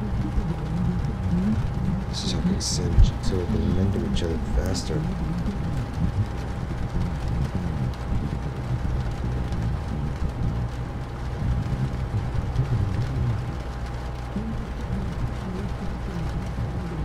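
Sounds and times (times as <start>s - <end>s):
deep steady rumble: 0.0s - 17.0s
faint rain drop ticks: 0.0s - 17.0s
rain hiss: 0.0s - 17.0s.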